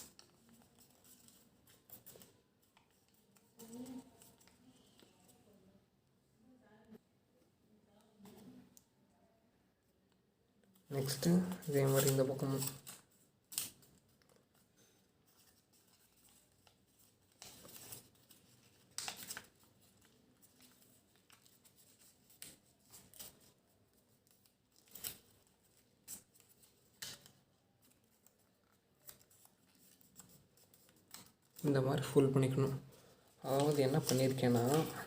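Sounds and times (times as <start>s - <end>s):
paper rustling and crackling: 0.0s - 5.4s, 10.8s - 35.0s.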